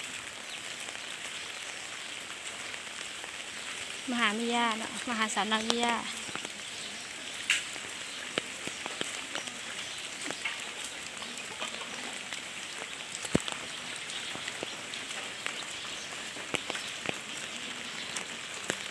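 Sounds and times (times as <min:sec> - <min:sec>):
heavy rain hissing: 0:00.0 - 0:18.9
raindrops tapping: 0:00.0 - 0:18.9.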